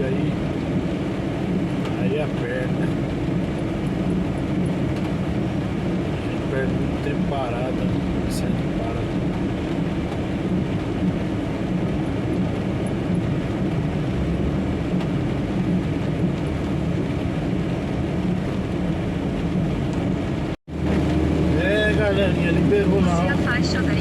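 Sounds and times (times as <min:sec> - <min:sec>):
road noise: 0:00.0 - 0:24.0
truck engine: 0:00.0 - 0:24.0.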